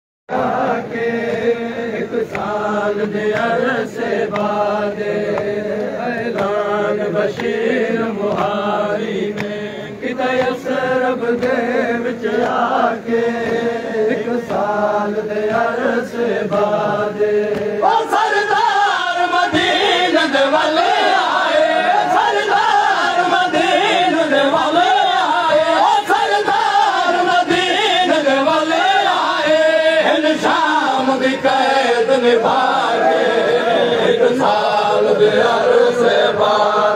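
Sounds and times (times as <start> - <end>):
men chanting: 0.3 - 36.9.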